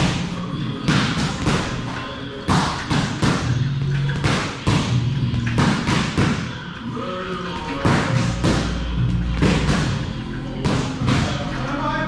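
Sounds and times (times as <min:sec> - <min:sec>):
boxing gloves punching a bag: 0:00.0 - 0:06.6, 0:07.6 - 0:11.4.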